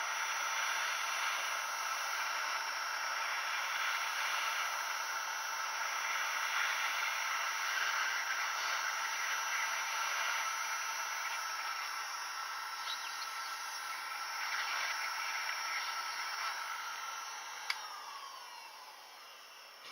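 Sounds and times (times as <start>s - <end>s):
steady hiss: 0.0s - 18.1s
faint steady tones: 0.0s - 19.9s.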